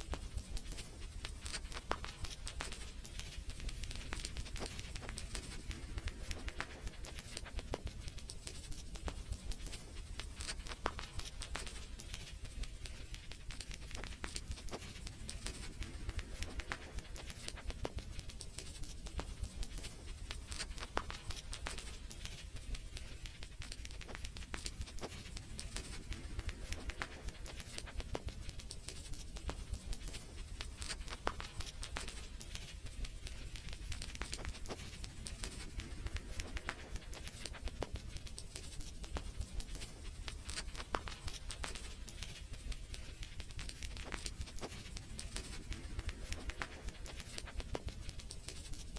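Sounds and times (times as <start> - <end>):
fire crackling and popping: 0.0 - 48.9
low rumble and hiss of fire: 0.0 - 48.9.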